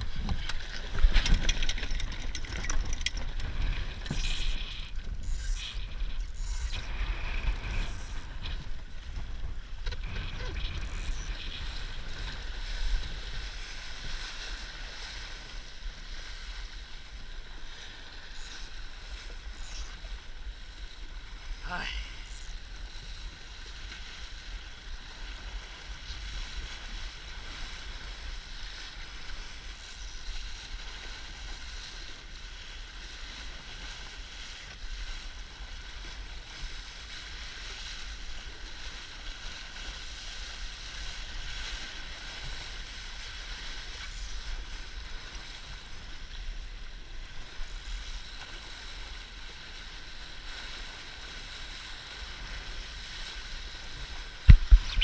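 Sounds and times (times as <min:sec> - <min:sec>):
water rushing along hull: 0:00.0 - 0:55.0
wind rumble on microphone: 0:00.0 - 0:55.0.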